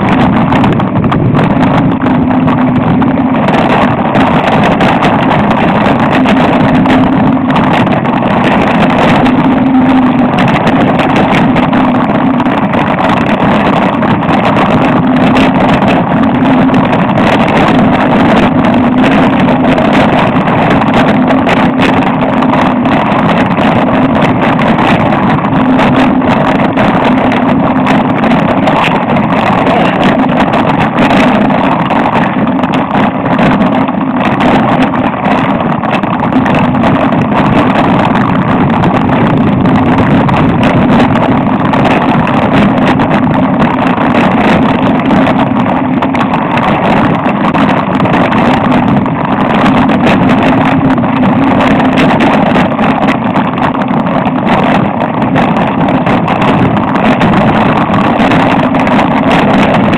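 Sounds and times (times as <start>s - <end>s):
wind rushing on microphone: 0.0s - 59.9s.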